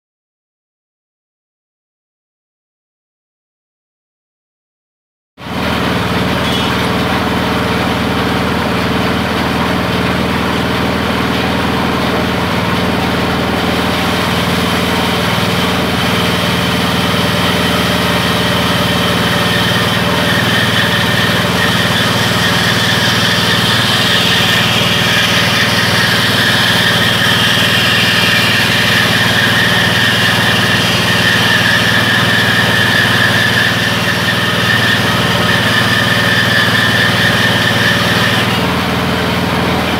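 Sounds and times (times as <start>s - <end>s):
small petrol engine running: 5.4s - 39.9s
bandsaw blade cutting wood: 5.5s - 39.9s.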